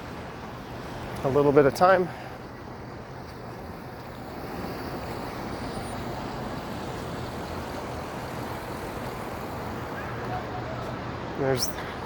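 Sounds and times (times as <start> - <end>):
traffic on wet roads: 0.0 - 12.0.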